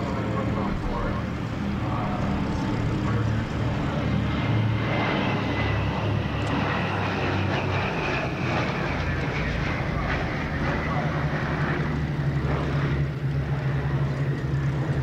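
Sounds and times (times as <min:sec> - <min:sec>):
propeller aircraft engines droning: 0:00.0 - 0:15.0.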